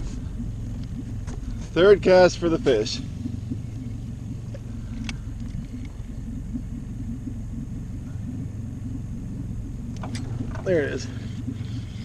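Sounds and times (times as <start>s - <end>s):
faint ticks: 0.0s - 12.0s
outboard motor idling: 0.0s - 12.0s.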